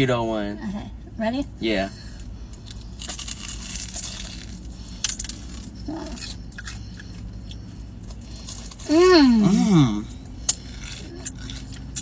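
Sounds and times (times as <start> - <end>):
closed-mouth hum: 0.0 - 12.0
crunching and chewing food: 2.0 - 12.0.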